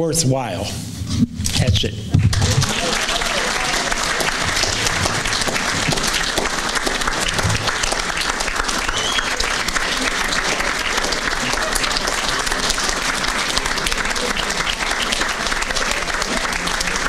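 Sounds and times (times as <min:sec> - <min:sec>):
audience applauding: 0:02.2 - 0:17.0.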